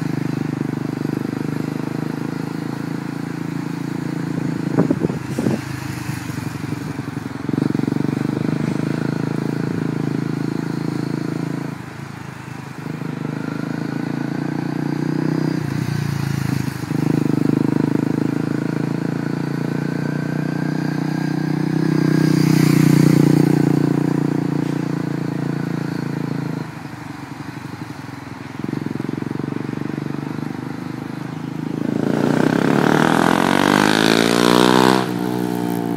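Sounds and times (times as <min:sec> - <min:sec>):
motorcycle engine revving: 0:00.0 - 0:35.9
motorcycle passing by: 0:00.0 - 0:35.9.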